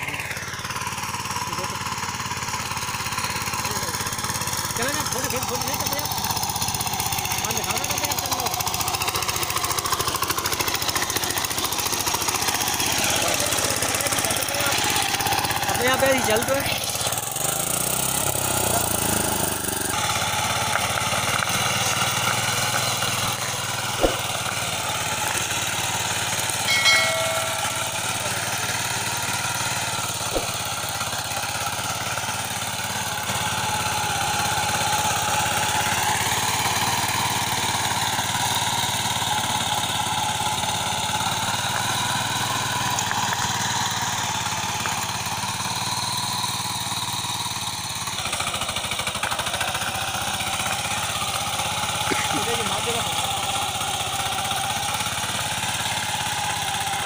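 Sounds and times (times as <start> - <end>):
power tiller engine running: 0.0 - 57.0.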